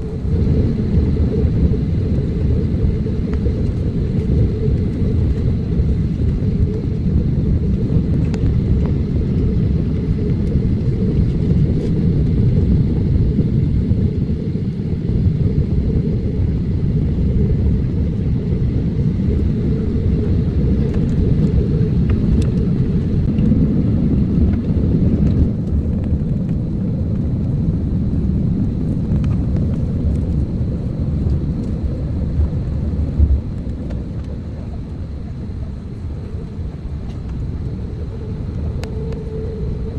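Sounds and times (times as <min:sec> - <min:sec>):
airliner cabin rumble: 0:00.0 - 0:39.9
faint high whine: 0:00.0 - 0:39.9.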